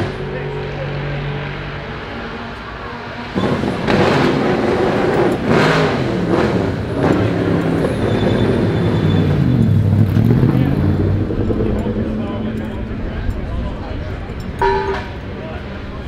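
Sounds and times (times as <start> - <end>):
loud rough engine: 0.0 - 15.5
race car engines running: 0.0 - 16.0.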